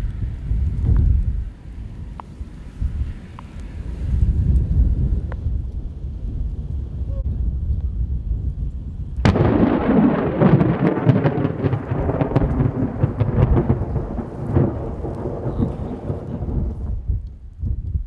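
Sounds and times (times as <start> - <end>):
thunder crack and rolling rumble: 0.0 - 18.0.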